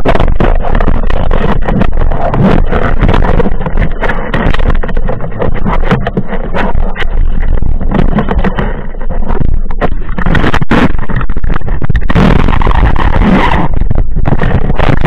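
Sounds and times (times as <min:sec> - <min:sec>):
underwater rush of water: 0:00.0 - 0:15.0.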